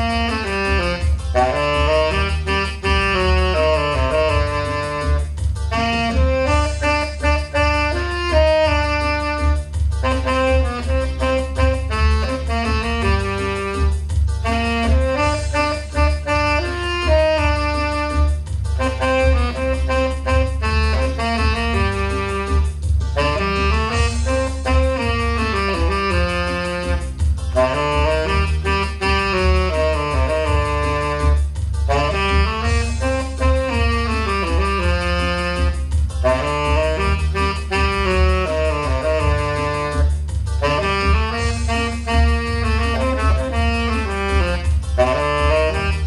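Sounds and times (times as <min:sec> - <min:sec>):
pulsing low bass: 0:00.0 - 0:46.0
saxophone dance melody: 0:00.0 - 0:46.0.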